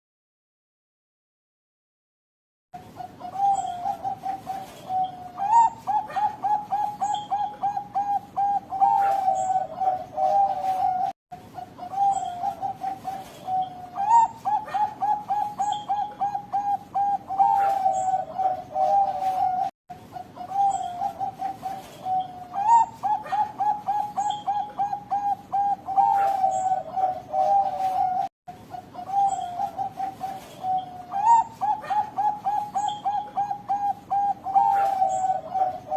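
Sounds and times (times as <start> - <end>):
dove cooing: 2.8 - 35.9.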